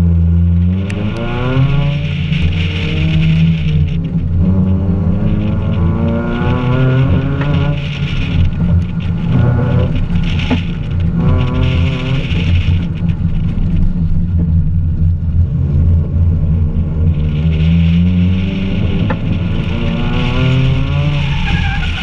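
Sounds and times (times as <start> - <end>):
car engine revving: 0.0 - 22.0
low rumble: 0.0 - 22.0.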